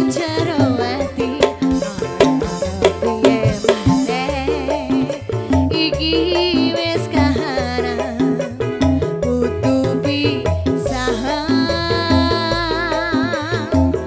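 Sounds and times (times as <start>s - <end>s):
band playing: 0.0s - 14.0s
hand drum strokes: 0.0s - 14.0s
repeating bass line: 0.0s - 14.0s
woman singing with vibrato: 0.0s - 14.0s.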